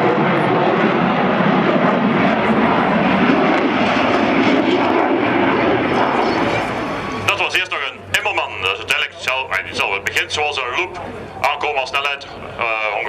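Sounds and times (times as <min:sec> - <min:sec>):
fighter jet flying past: 0:00.0 - 0:13.0.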